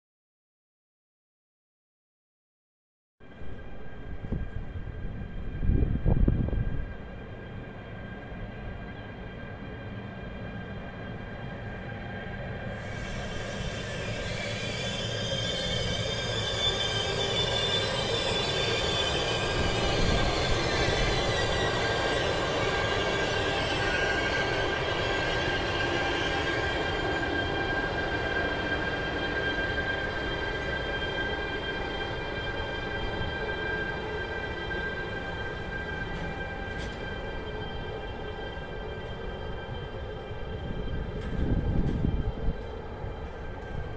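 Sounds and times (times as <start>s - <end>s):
train rumble: 3.2s - 43.9s
wheels and brakes squealing: 8.0s - 43.9s.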